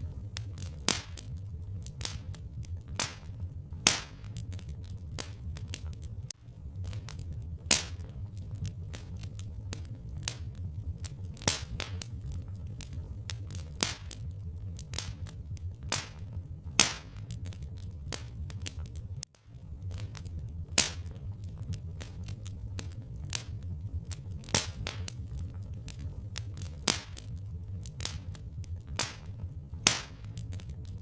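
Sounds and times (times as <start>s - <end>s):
log fire crackling: 0.0s - 31.0s
low rumble: 0.0s - 31.0s.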